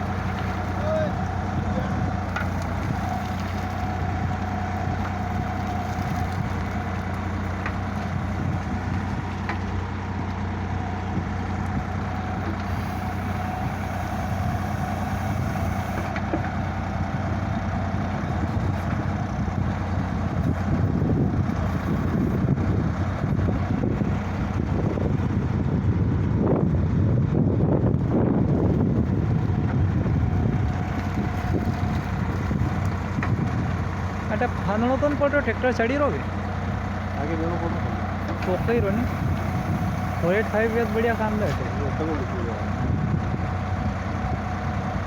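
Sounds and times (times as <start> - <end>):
steady whine: 0.0 - 43.8
tractor diesel engine running: 0.0 - 45.0.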